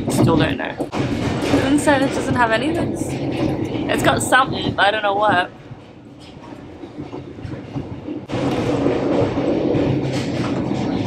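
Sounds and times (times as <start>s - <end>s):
train rumble: 0.0s - 11.0s
wheel-on-rail clatter: 0.0s - 11.0s.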